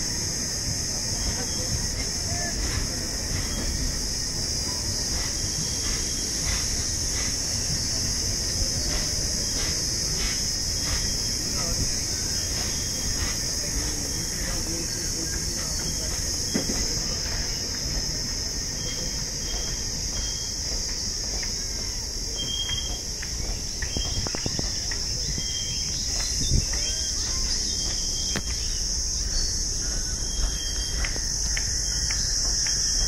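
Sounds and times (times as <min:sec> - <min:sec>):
insects droning: 0:00.0 - 0:33.0
low train rumble: 0:00.0 - 0:33.0.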